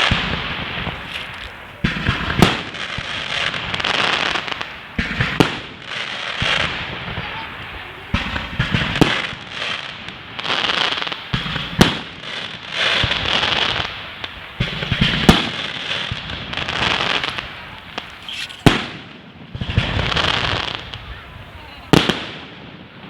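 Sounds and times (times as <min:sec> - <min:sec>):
fireworks bangs: 0:00.0 - 0:23.0
hissing crackle of fireworks: 0:00.0 - 0:23.0.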